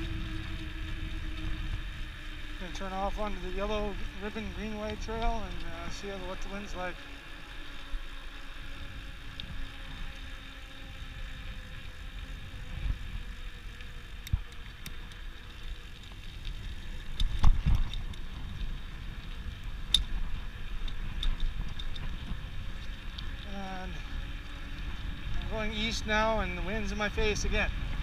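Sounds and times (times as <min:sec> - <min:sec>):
bicycle tyres on asphalt: 0:00.0 - 0:28.0
bike clicks and rattles: 0:00.0 - 0:28.0
wind rumbling on microphone: 0:00.0 - 0:28.0.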